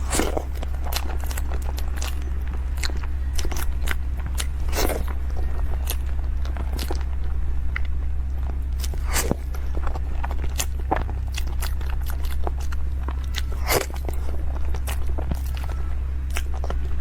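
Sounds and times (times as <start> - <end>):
chewing and biting: 0.0 - 17.0
low hum: 0.0 - 17.0.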